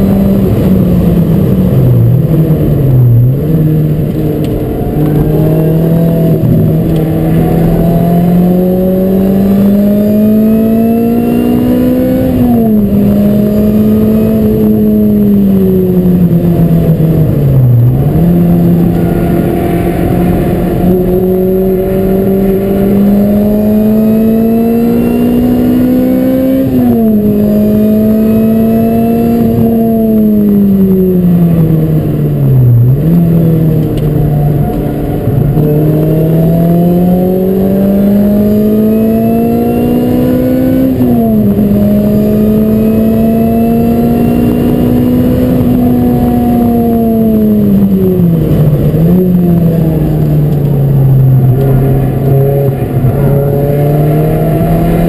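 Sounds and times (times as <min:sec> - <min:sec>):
car engine under load: 0:00.0 - 0:55.0.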